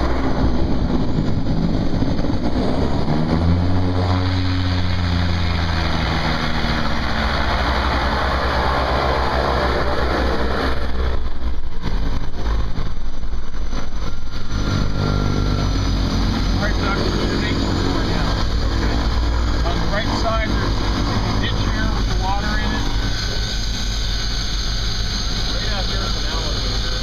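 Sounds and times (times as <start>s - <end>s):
wind noise: 0.0s - 25.5s
airplane engine drone: 0.0s - 27.0s.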